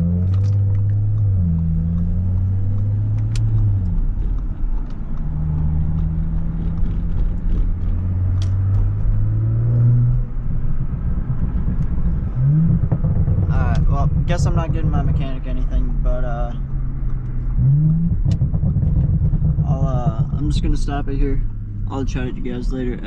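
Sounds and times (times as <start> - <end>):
car engine while driving: 0.0 - 23.0
road rumble inside car: 0.0 - 23.0.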